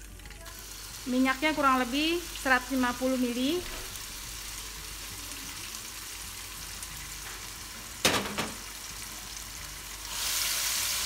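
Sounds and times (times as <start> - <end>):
paste sizzling in hot oil: 0.5 - 8.0, 8.6 - 11.0.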